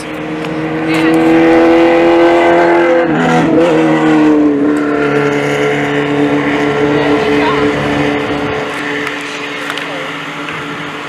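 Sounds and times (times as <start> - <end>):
vehicle engine running loudly: 0.0 - 11.0.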